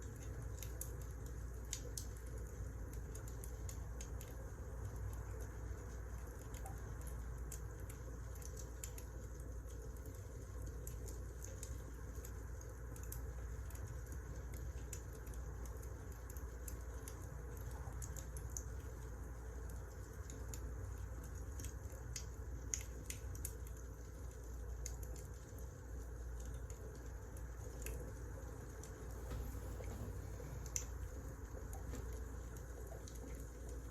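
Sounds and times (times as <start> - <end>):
low rumble of burning firewood: 0.0 - 33.9
wood fire crackling: 5.0 - 33.9.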